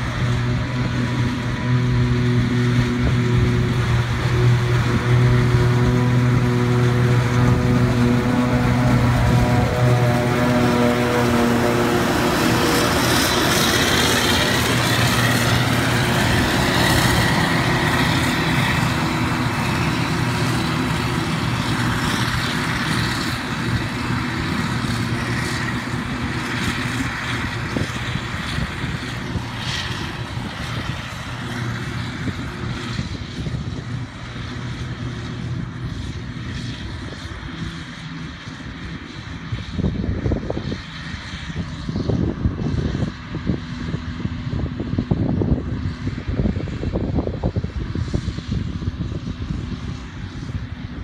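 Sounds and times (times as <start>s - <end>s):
diesel engines running: 0.0s - 51.0s.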